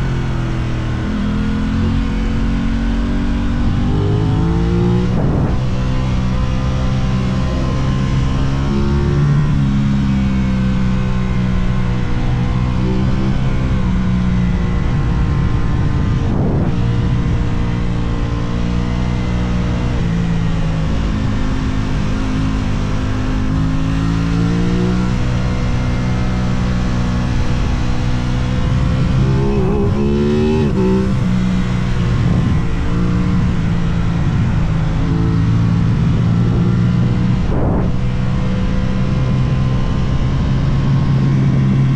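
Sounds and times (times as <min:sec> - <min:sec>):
motorcycle engine at speed: 0:00.0 - 0:41.9.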